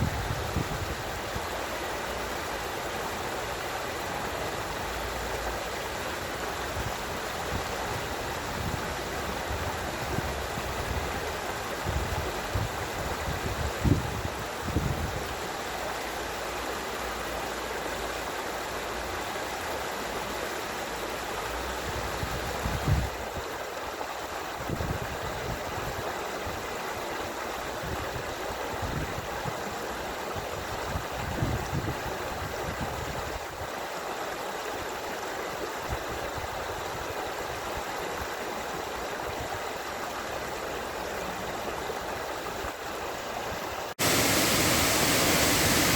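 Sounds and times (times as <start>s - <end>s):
water rushing and gurgling: 0.0s - 45.9s.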